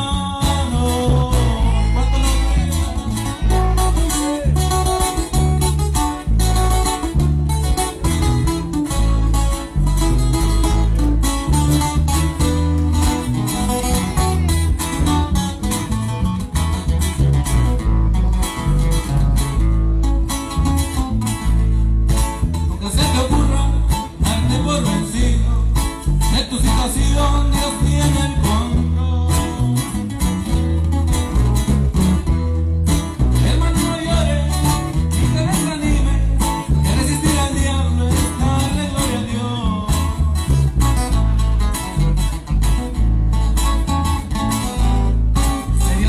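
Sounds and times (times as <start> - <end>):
drums: 0.0 - 46.0
electric bass: 0.0 - 46.0
guitars: 0.0 - 46.0.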